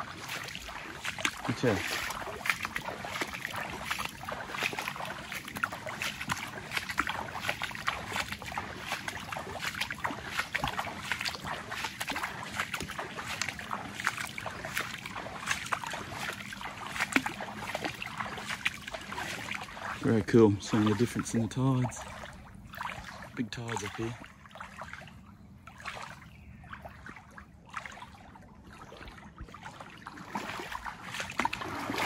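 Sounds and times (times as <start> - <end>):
shallow water sloshing and lapping: 0.0 - 32.0.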